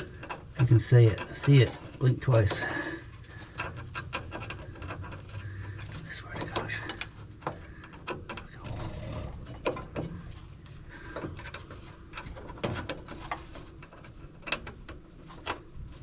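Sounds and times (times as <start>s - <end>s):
metallic clicks and rubbing: 0.0s - 16.0s.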